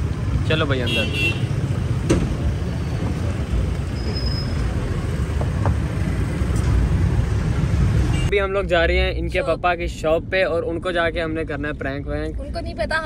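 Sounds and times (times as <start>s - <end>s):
rumble of vehicle engines: 0.0s - 13.0s.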